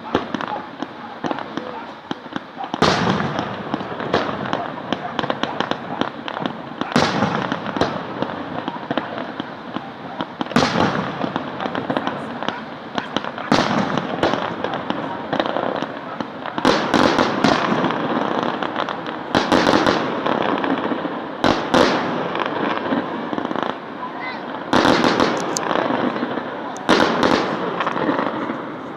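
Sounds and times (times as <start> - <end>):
firework bangs: 0.0 - 28.9
firework crackling: 0.0 - 28.9.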